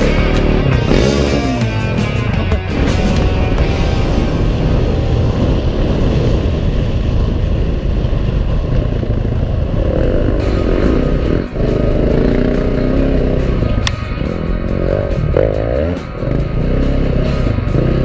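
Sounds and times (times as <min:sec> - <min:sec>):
motorcycle engine revving: 0:00.0 - 0:18.0
wind rumble on microphone: 0:02.3 - 0:18.0.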